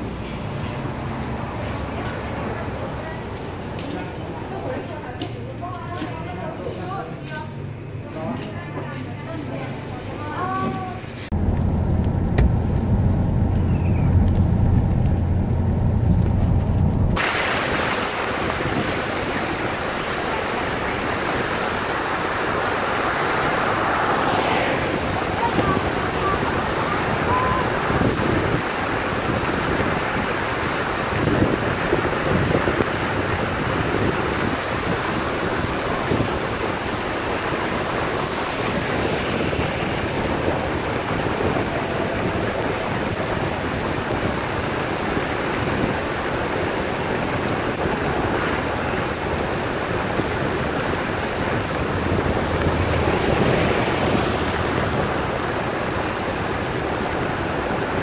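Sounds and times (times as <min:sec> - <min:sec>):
rain: 0:00.0 - 0:07.4, 0:09.5 - 0:58.0
wind buffeting microphone: 0:11.3 - 0:58.0.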